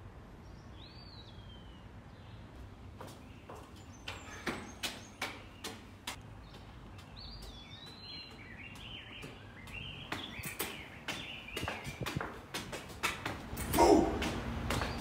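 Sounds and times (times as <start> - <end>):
footsteps on stone: 2.9 - 15.0.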